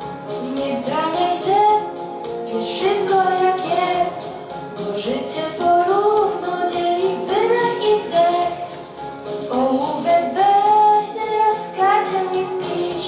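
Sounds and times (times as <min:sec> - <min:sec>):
instrumental backing track: 0:00.0 - 0:13.0
girl singing pop song: 0:00.3 - 0:13.0.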